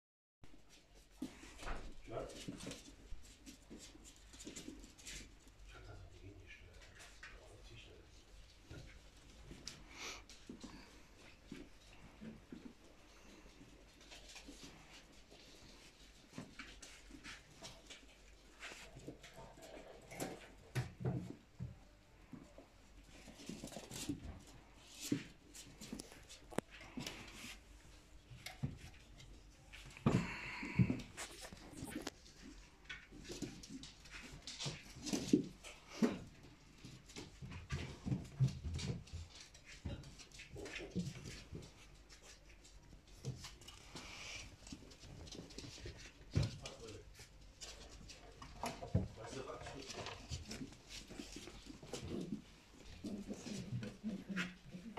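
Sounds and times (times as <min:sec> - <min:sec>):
paws scrabbling on wooden floor: 0:00.5 - 0:54.9
puppy sounds: 0:08.7 - 0:39.0, 0:39.8 - 0:54.9.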